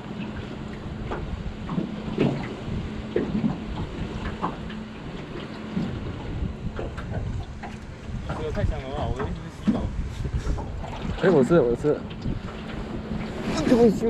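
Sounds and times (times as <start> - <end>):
water slapping against boat hull: 0.0 - 14.0
wind noise: 1.0 - 14.0.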